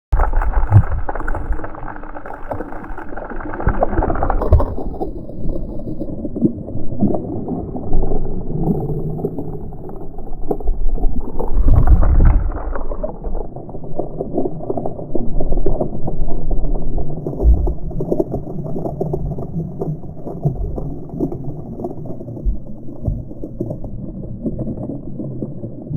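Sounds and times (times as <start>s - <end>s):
muffled water sloshing: 0.1s - 15.7s, 17.2s - 25.9s.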